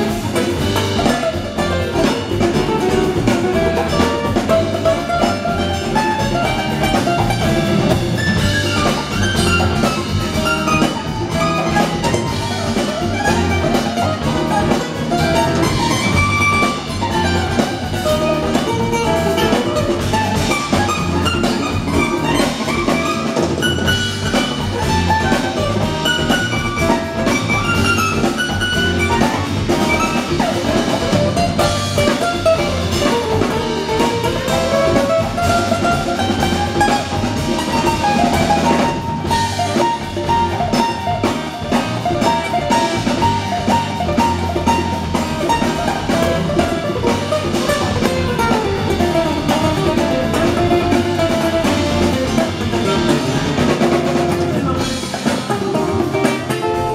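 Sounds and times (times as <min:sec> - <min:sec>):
bass guitar: 0:00.0 - 0:56.9
hand drums: 0:00.0 - 0:56.9.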